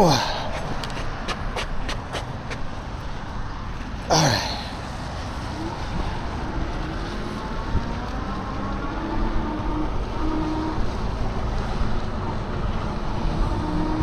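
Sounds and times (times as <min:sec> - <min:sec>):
wind buffeting microphone: 0:00.0 - 0:04.0, 0:04.8 - 0:14.0
low road rumble: 0:00.0 - 0:14.0.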